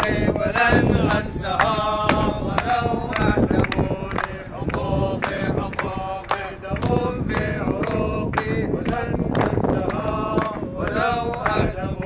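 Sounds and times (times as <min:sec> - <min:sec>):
hands clapping in rhythm: 0:00.0 - 0:12.0
men chanting in unison: 0:00.0 - 0:12.0.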